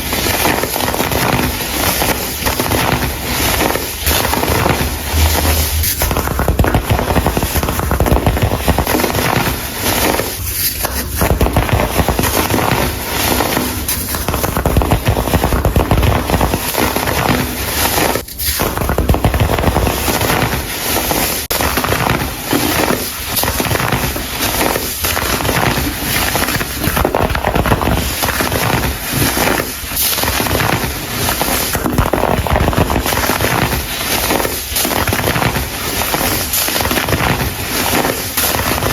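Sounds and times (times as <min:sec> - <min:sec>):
baking soda chunks crunching: 0:00.0 - 0:38.9.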